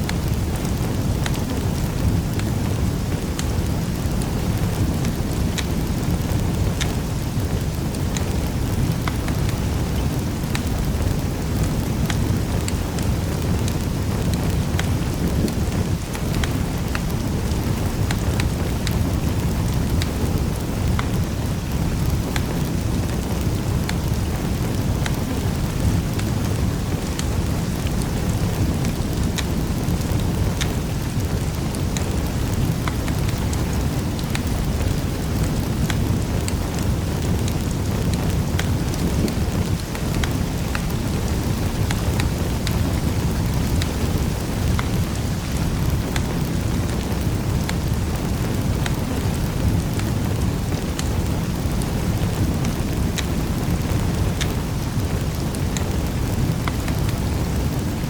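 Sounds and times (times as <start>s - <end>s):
fire crackling and popping: 0.0s - 58.0s
fire roaring: 0.0s - 58.0s.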